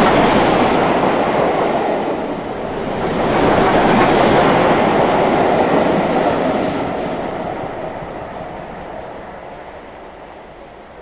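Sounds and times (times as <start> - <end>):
steam train wheels rumbling on rails: 0.0 - 11.0.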